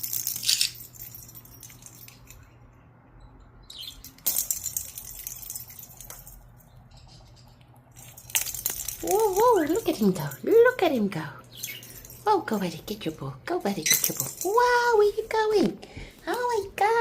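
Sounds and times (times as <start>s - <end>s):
toy rattle ball jingling: 0.0s - 2.6s, 3.7s - 15.4s.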